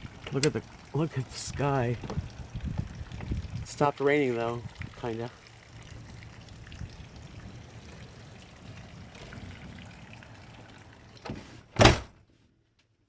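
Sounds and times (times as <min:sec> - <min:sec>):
light rain hissing: 0:00.0 - 0:11.7
rainwater dripping and trickling: 0:00.0 - 0:11.8.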